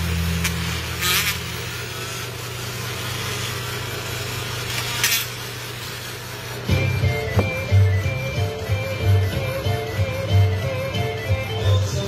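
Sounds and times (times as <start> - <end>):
rotary tool polishing metal: 0.0 - 12.0.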